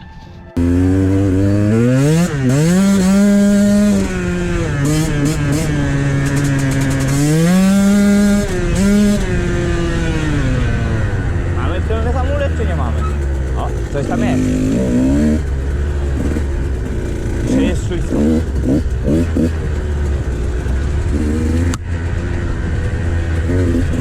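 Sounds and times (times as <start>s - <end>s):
dirt bike engine revving: 0.6s - 24.0s.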